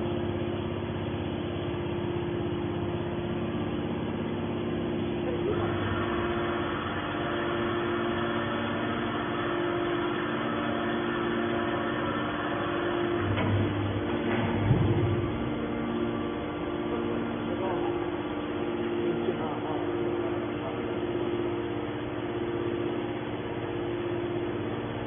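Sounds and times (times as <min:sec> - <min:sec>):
electric motor and pump humming: 0:00.0 - 0:25.0.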